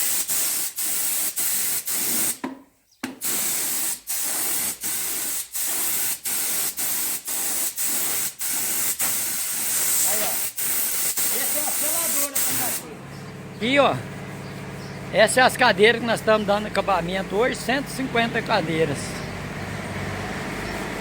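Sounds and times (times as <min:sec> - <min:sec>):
spray gun hissing: 0:00.0 - 0:02.4, 0:03.2 - 0:19.3.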